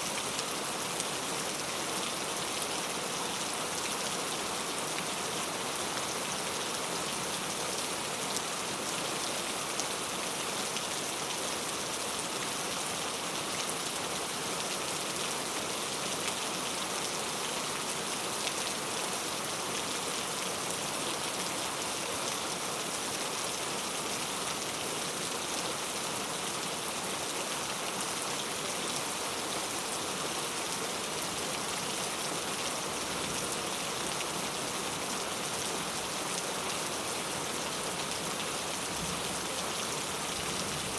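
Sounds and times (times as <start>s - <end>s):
heavy rain on hard surfaces: 0.0s - 40.9s.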